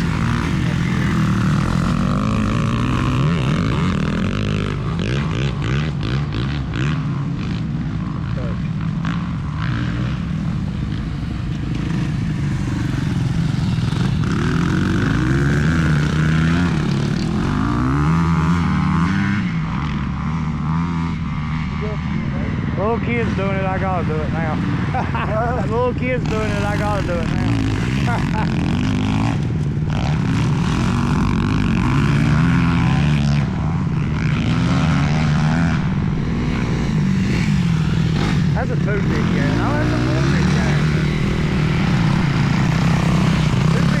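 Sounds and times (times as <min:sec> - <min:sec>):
dirt bike engines revving: 0:00.0 - 0:44.0.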